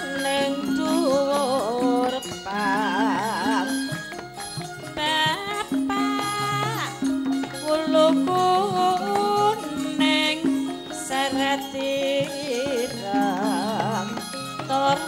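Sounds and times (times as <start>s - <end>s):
woman singing with vibrato: 0.0s - 4.2s, 4.8s - 15.0s
gamelan music: 0.0s - 15.0s.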